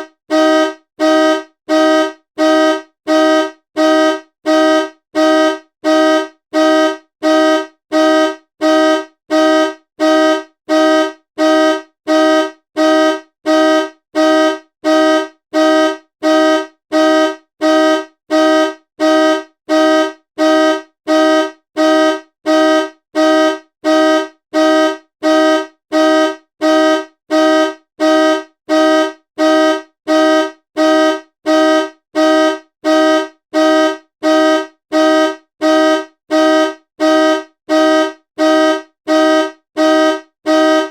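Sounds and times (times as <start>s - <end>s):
car horn honking: 0.0s - 40.9s.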